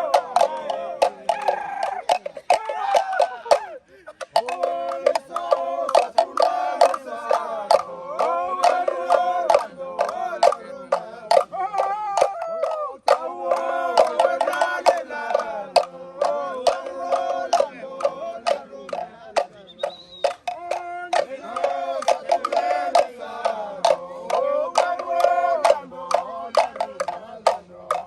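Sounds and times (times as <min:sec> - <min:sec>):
sharp percussive hits: 0:00.0 - 0:19.6, 0:20.2 - 0:28.0
voices singing together: 0:00.0 - 0:28.0.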